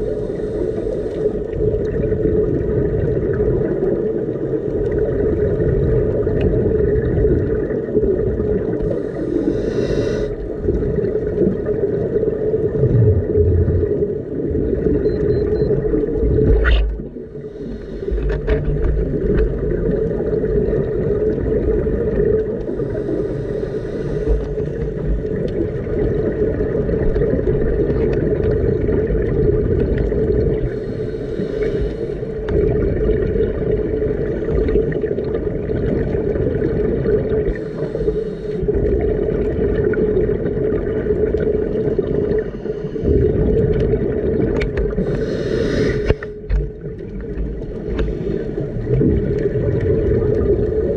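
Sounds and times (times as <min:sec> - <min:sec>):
underwater boat engine hum: 0:00.0 - 0:50.9
diver exhaling bubbles: 0:04.9 - 0:50.9.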